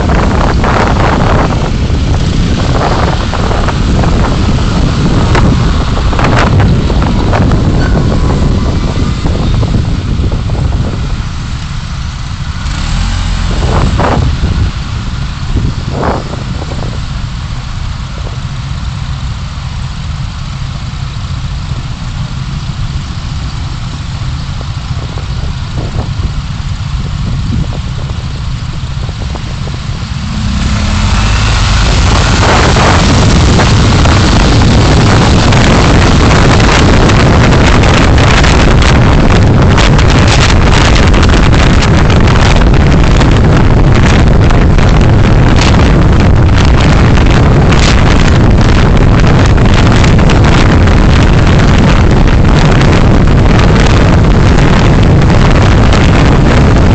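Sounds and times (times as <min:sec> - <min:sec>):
wind buffeting microphone: 0:00.0 - 0:18.8, 0:23.6 - 0:56.9
wind rush: 0:00.0 - 0:18.8, 0:23.7 - 0:56.9
car engine and road noise: 0:00.0 - 0:56.9.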